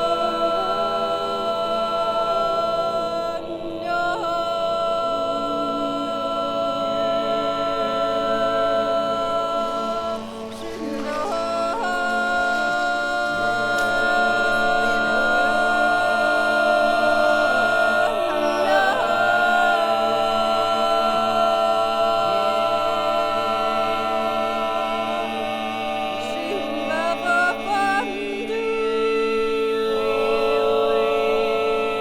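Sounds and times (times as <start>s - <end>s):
voices singing a cappella: 0.0s - 32.0s.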